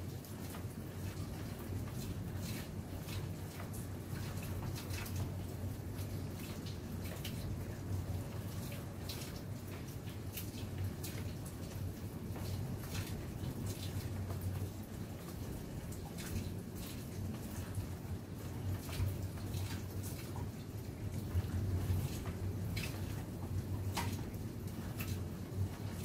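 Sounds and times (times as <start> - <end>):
light drips and ticks: 0.0 - 26.0.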